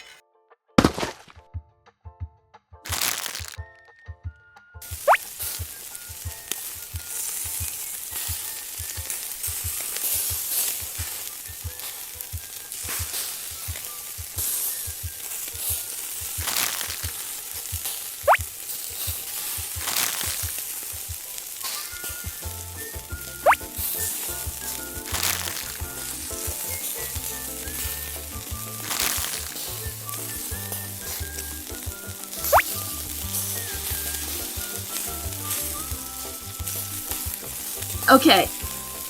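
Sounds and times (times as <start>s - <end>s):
frying-like hiss: 2.9s - 3.6s, 4.8s - 39.0s.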